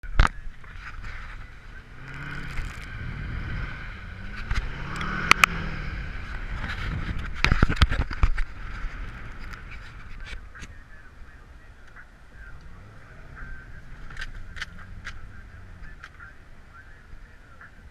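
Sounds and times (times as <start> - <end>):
diesel engine revving: 1.0 - 17.3.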